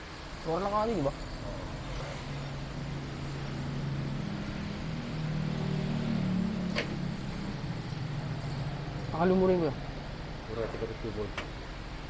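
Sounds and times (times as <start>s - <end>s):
motor hum: 0.0s - 10.5s.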